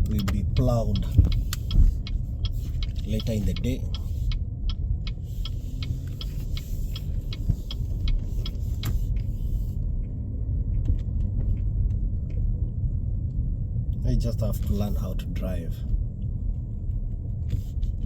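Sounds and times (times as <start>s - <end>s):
car rumbling on snowy road: 0.0s - 18.0s.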